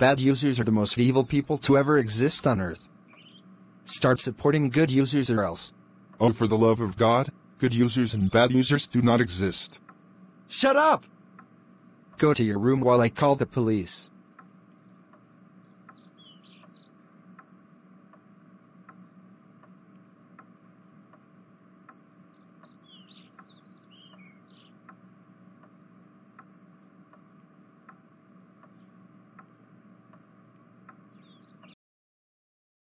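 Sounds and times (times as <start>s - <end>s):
clock ticking: 0.0s - 31.6s
birds chirping: 0.0s - 31.8s
low steady hum: 0.0s - 31.8s.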